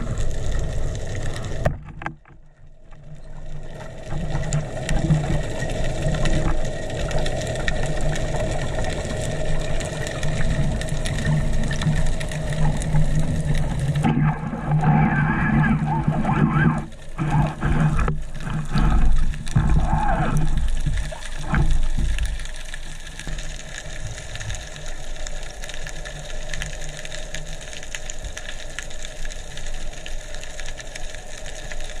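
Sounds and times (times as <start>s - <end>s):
fine crackling ticks: 0.0s - 32.0s
low rumbling water movement: 0.0s - 32.0s.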